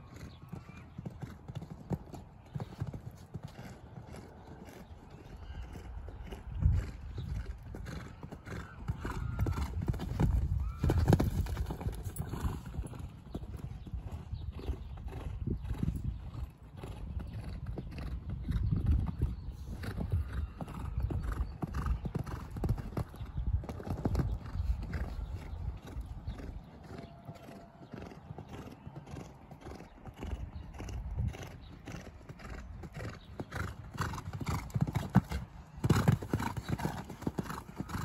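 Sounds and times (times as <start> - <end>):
horse hooves cantering on sand: 0.1 - 38.0.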